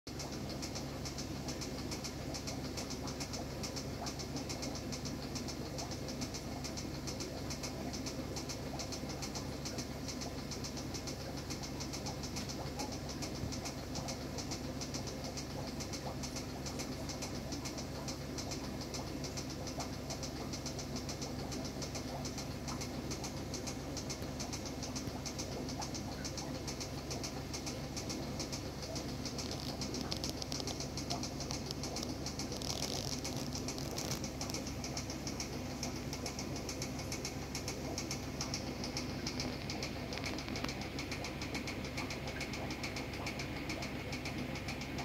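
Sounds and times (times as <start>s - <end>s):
fast even crackle: 0.1s - 45.0s
low equipment hum: 0.1s - 45.0s.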